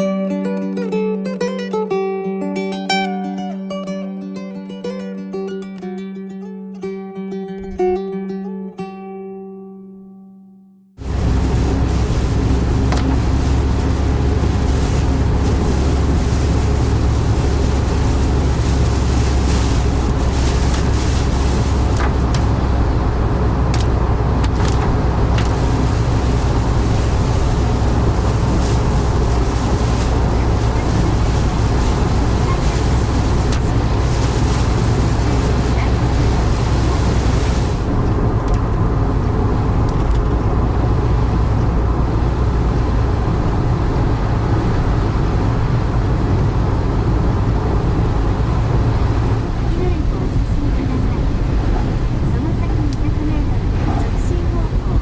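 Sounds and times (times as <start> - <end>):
vehicle and road rumble: 11.0 - 55.0.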